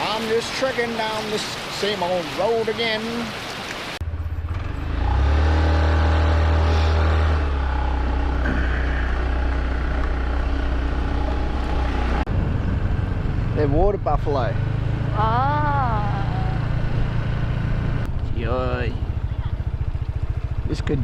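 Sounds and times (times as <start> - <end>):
motorbike engine: 4.0 - 21.0.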